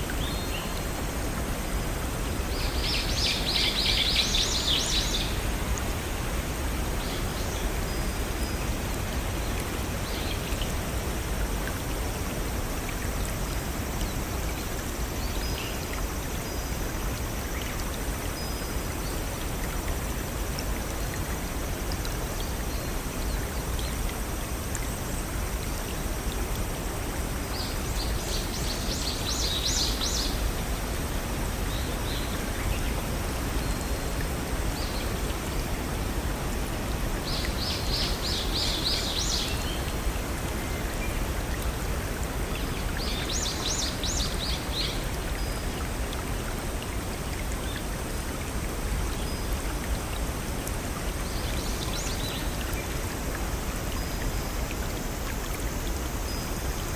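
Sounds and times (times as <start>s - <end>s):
running water of a brook: 0.0s - 56.9s.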